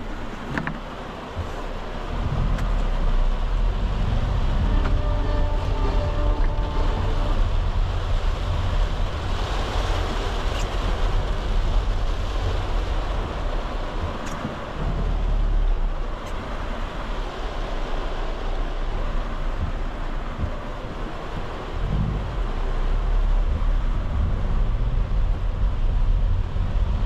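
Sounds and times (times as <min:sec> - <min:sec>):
engine and road rumble: 0:00.0 - 0:27.0
rain on vehicle body: 0:00.0 - 0:27.0.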